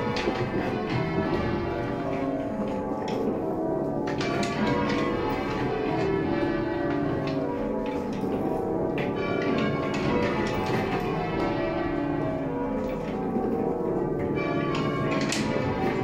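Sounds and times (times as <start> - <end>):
half-muffled church bells ringing: 0.0 - 16.0.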